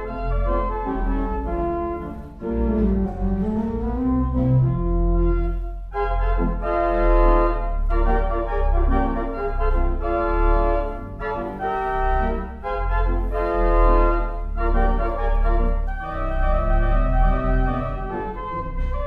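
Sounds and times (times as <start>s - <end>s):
pipe organ playing chords: 0.0s - 19.0s.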